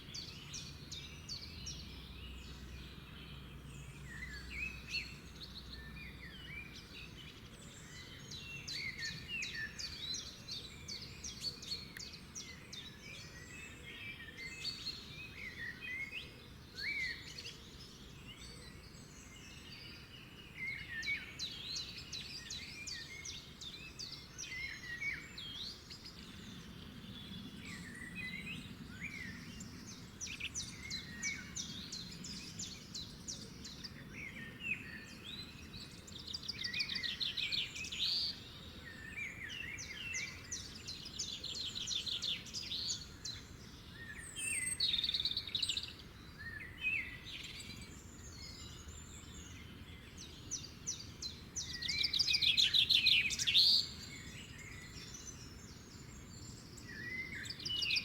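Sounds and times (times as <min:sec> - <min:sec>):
faint low background noise: 0:00.0 - 0:58.0
wild birds singing: 0:00.0 - 0:58.0.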